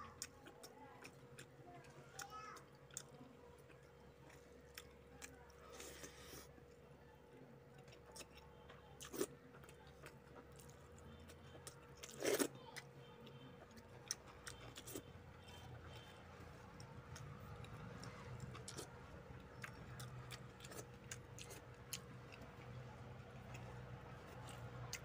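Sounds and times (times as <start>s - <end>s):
faint hum: 0.0s - 25.0s
person chewing with wet smacks: 0.1s - 6.8s, 7.7s - 25.0s.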